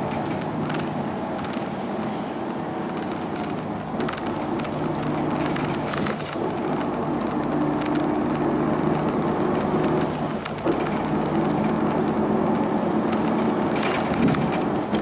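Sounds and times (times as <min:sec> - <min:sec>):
diesel engine drone: 0:00.0 - 0:15.0
light clicks and rattles in cabin: 0:00.0 - 0:15.0
road noise: 0:00.0 - 0:15.0.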